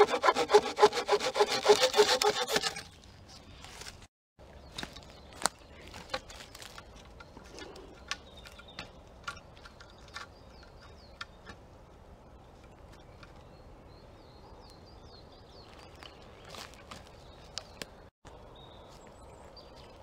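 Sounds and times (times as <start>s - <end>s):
forest ambience: 1.4s - 20.0s.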